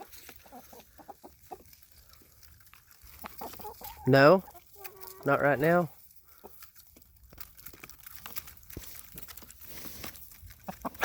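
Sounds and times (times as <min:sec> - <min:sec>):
chickens pecking grain: 0:00.0 - 0:11.0.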